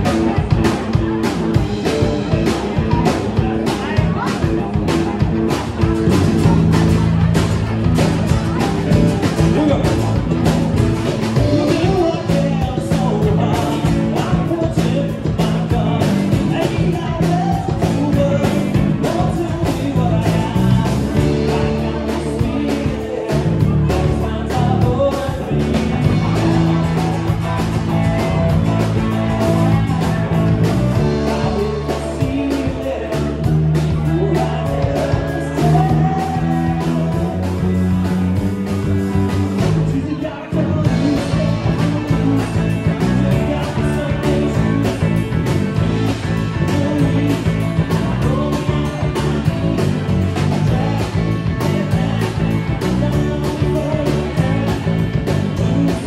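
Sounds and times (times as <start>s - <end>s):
band playing rock and roll: 0.0s - 56.0s
person singing: 0.0s - 56.0s
steady drum beat: 0.0s - 56.0s.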